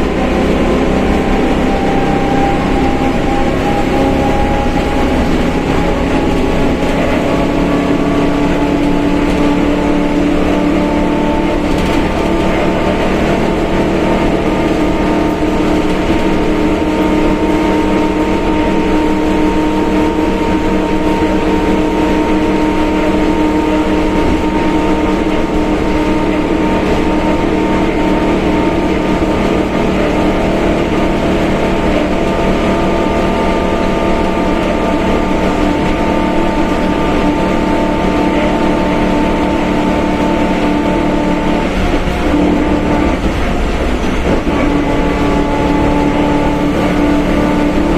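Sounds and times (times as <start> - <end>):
bus engine rumble: 0.0 - 47.9
differential whine: 0.0 - 47.9.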